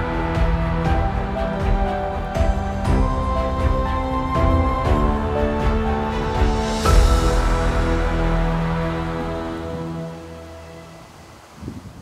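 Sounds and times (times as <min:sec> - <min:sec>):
steady low beat: 0:00.0 - 0:10.0
held music notes: 0:00.0 - 0:11.5.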